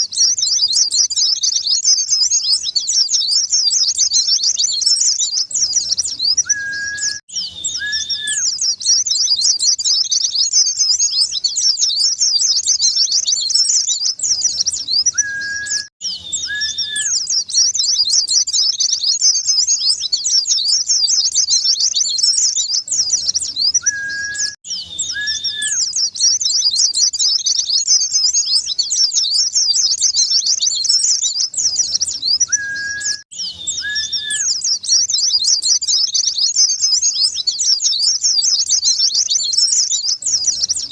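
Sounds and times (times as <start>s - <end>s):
bird twittering rapidly: 0.0s - 40.9s
low whistled bird notes: 0.1s - 40.9s.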